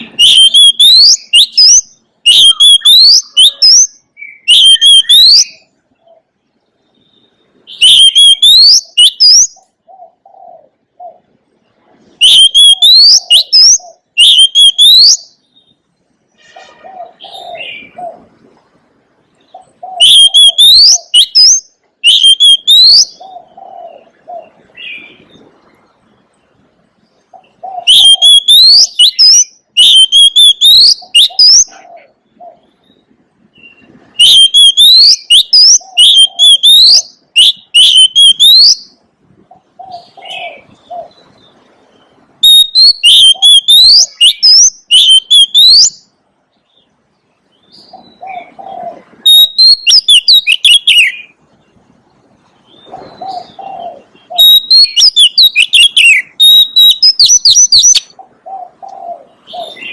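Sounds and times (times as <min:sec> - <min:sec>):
songbird whistling song: 0:00.0 - 0:11.3, 0:12.2 - 0:18.3, 0:19.4 - 0:26.4, 0:27.2 - 0:51.8, 0:52.6 - 0:59.9
soft low bird calls: 0:00.0 - 0:59.9.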